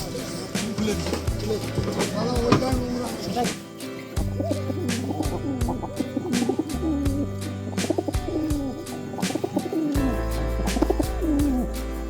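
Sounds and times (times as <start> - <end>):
background music with steady beat: 0.0 - 12.0
low falling bird-like calls: 0.0 - 12.0.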